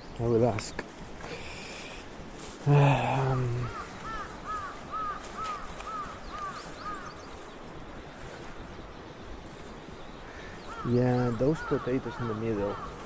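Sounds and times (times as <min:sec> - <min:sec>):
bird calling: 0:01.2 - 0:13.0.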